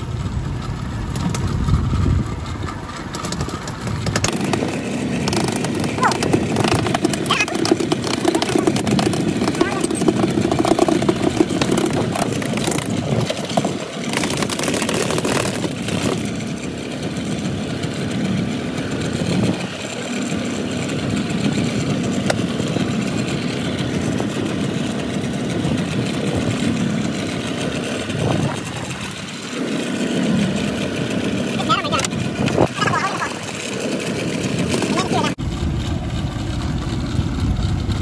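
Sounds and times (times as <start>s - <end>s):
outboard motor running: 0.0s - 38.0s
wind: 0.0s - 38.0s.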